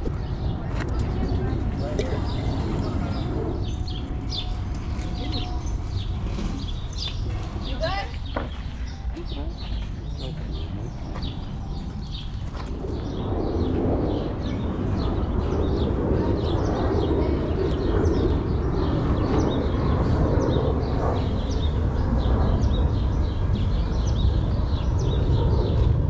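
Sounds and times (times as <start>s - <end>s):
low outdoor rumble: 0.0s - 26.0s
small birds chirping: 0.0s - 26.0s.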